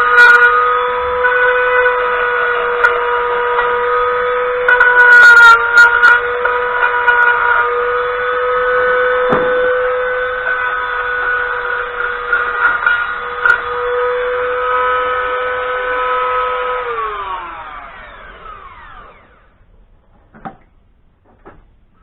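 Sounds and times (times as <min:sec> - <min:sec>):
electric power tool whining: 0:00.0 - 0:19.7.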